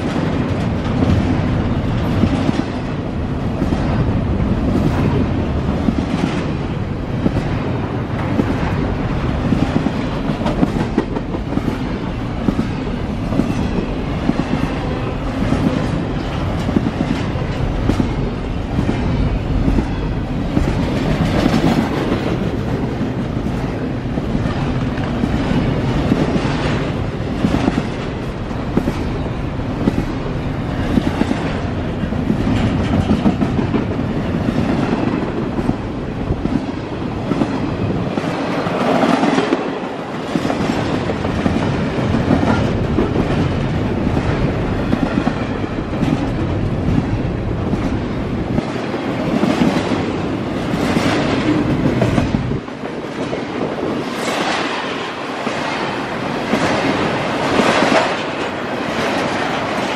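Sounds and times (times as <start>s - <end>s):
train wheels rolling on rail: 0.0s - 59.9s.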